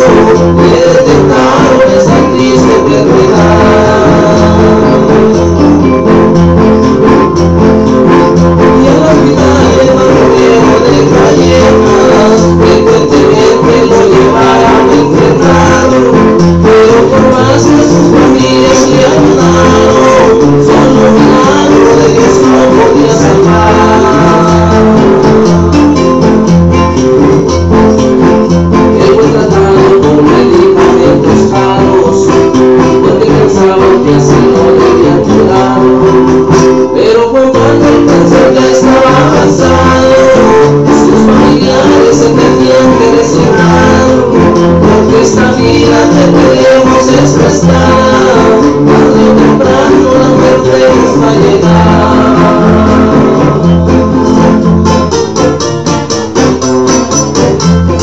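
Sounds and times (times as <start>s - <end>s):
acoustic guitars strumming: 0.0s - 58.0s.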